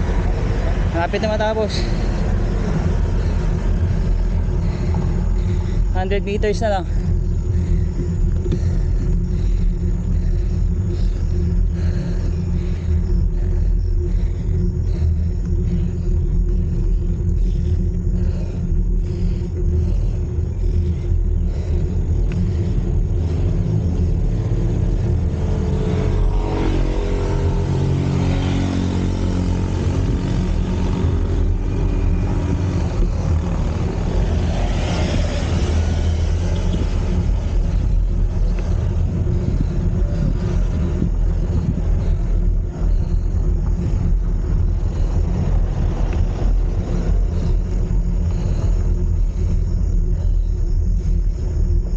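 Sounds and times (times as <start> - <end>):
motor vehicle passing: 0.0 - 51.4
wind and road rumble: 0.0 - 51.9.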